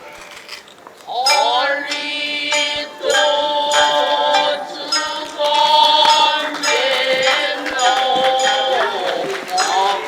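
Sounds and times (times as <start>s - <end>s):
stage accompaniment music: 1.2s - 10.0s.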